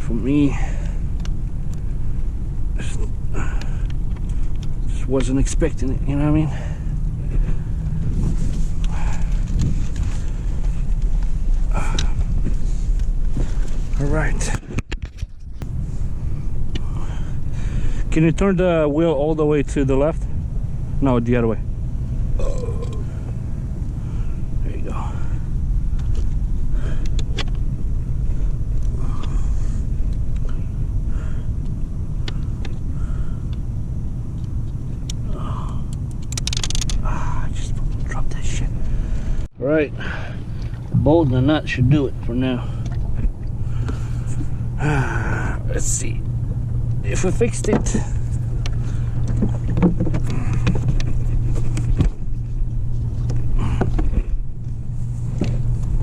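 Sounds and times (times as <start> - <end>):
boat engine idling: 0.0 - 56.0
steady low rumble: 0.0 - 56.0.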